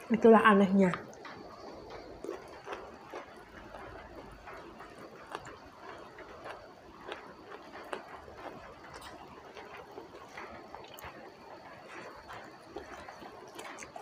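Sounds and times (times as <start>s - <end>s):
wet chewing and mouth smacks: 0.8s - 14.0s.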